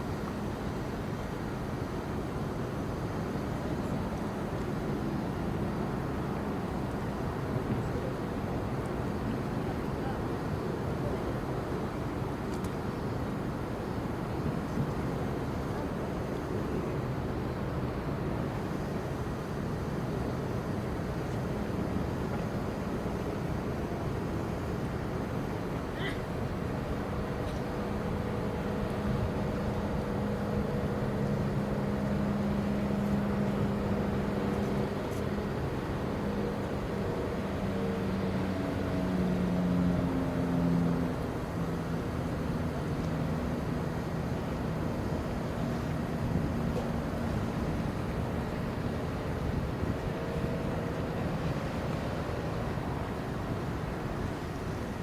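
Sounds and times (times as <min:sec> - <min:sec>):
ship engines droning: 0:00.0 - 0:55.0.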